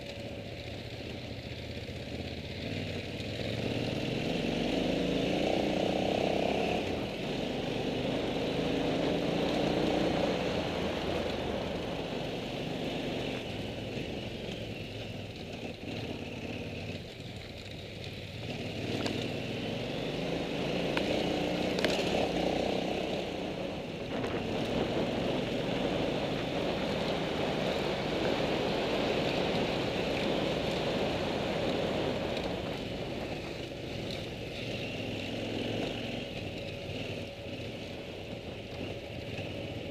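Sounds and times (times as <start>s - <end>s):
motorcycle engine revving: 1.8s - 39.9s.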